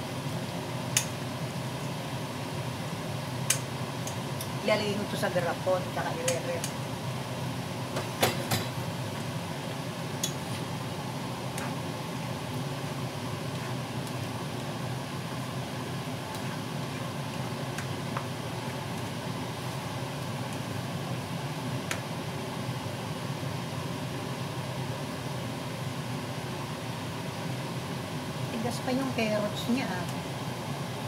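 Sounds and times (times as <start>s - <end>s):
fan-like hum and hiss: 0.0s - 31.0s.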